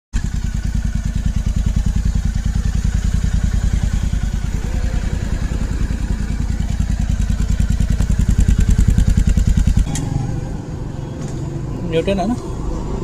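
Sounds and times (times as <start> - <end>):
motorcycle engine idling: 0.2 - 13.0.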